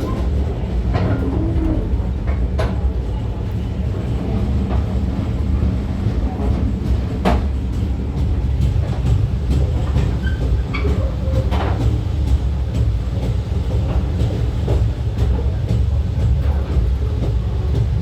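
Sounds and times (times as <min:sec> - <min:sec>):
steam train rumbling on track: 0:00.0 - 0:18.0.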